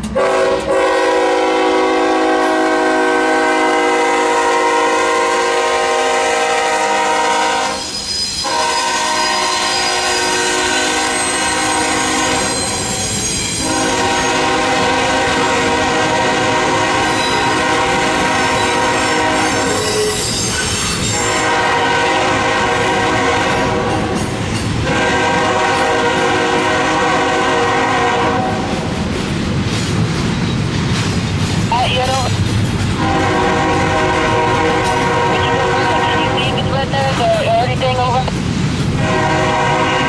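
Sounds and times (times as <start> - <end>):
passing train rumble: 0.0 - 40.0
locomotive air horn blasts: 0.2 - 20.5, 21.1 - 28.7, 33.0 - 36.8, 39.0 - 40.0.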